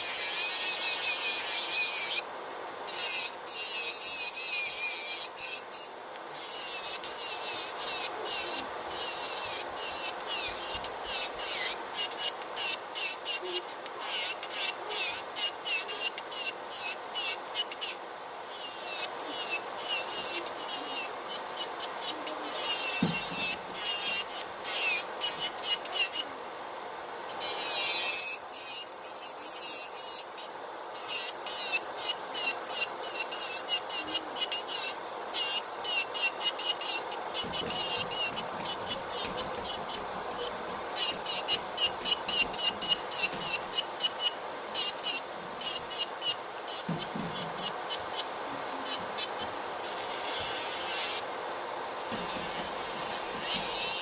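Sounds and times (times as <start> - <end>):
nail drill filing a fingernail: 0.0 - 2.2, 2.9 - 26.3, 27.3 - 48.2, 48.8 - 51.2, 52.0 - 54.0
fan hiss: 0.0 - 54.0.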